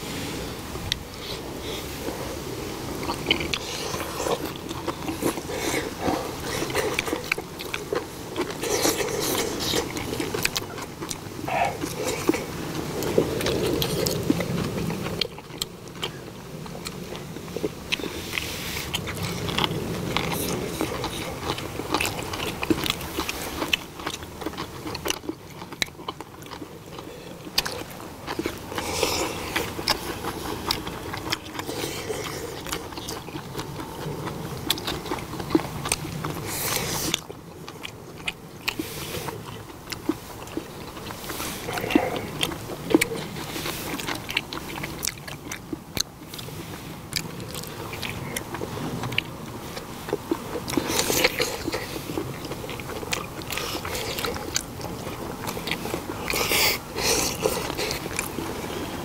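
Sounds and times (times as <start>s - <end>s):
wet chewing and smacking: 0.8s - 59.0s.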